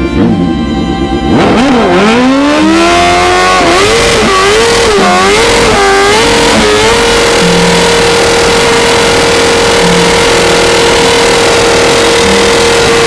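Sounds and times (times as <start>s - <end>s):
motorcycle engine revving hard: 0.0s - 13.0s.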